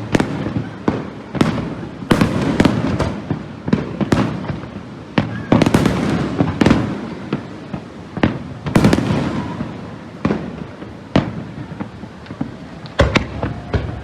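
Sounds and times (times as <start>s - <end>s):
firework bangs: 0.0s - 14.0s.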